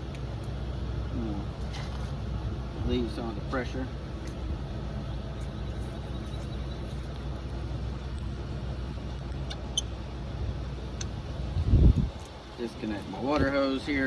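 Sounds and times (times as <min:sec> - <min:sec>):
engine idling rumble: 0:00.0 - 0:14.0.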